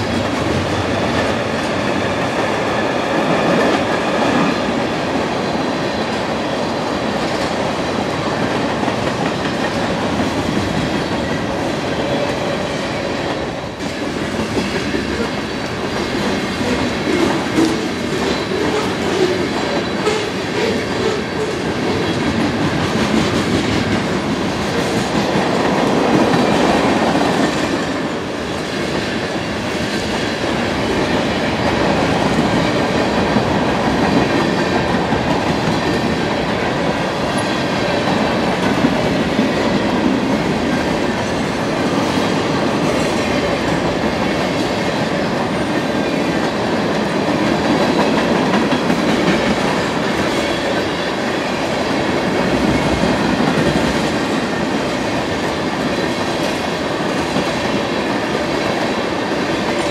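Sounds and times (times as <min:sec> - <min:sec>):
freight train wheels clattering: 0:00.0 - 0:59.9.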